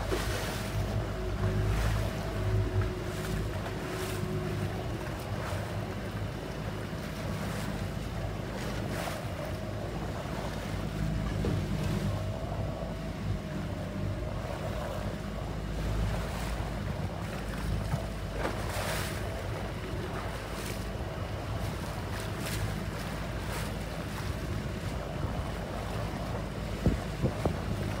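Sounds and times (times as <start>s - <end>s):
waves splashing against boat hull: 0.0s - 28.0s
wind buffeting microphone: 0.0s - 28.0s.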